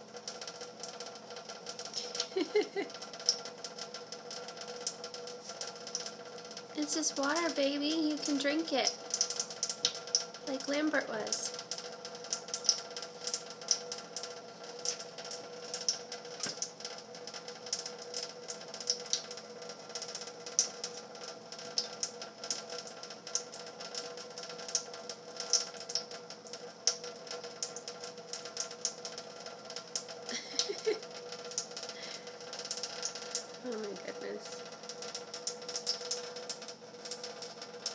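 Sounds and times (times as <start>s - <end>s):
tap water running into steel sink: 0.0s - 37.9s
water ticks and splashes: 0.0s - 37.9s.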